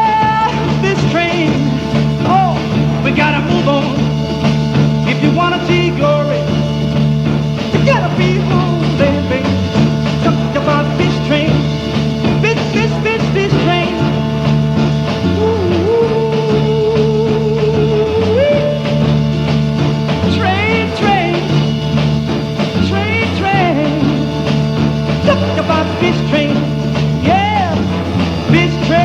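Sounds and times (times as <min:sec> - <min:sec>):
bass and drum beat: 0:00.0 - 0:29.0
bending lead guitar notes: 0:00.0 - 0:29.0.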